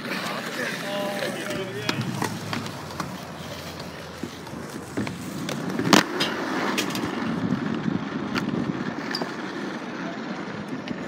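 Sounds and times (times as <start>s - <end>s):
wheels rolling on concrete: 0.0s - 11.0s.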